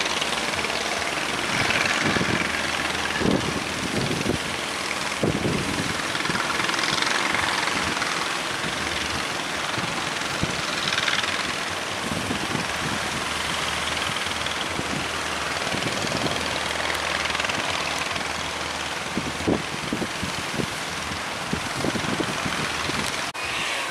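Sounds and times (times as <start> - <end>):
boat engine running: 0.0 - 23.9
surf rushing: 0.0 - 23.9
wind: 0.0 - 23.9.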